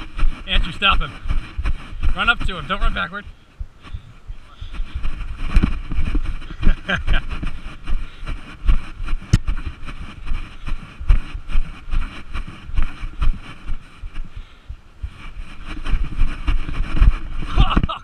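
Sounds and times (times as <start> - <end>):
running footfalls: 0.0 - 18.0
wind buffeting microphone: 0.0 - 18.0.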